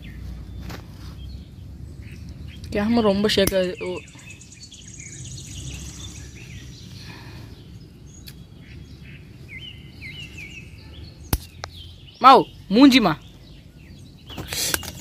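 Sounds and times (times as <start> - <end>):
low outdoor rumble: 0.0 - 14.3
small birds chirping: 0.0 - 15.0.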